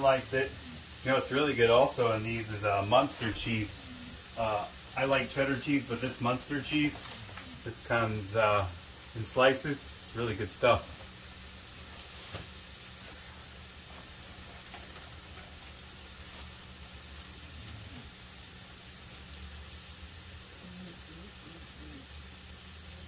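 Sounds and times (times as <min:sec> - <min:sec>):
low steady hum: 0:00.0 - 0:23.0
meat patty sizzling in pan: 0:00.0 - 0:23.0.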